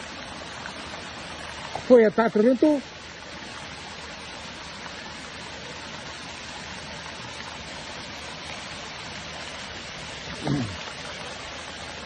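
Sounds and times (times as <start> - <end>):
liquid rushing down a street: 0.0 - 12.0.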